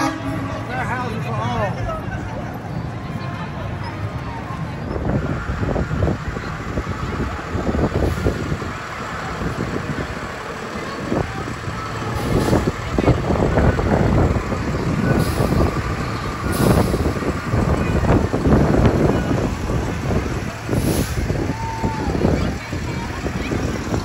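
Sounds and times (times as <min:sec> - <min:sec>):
garbage truck diesel engine: 0:00.0 - 0:24.0.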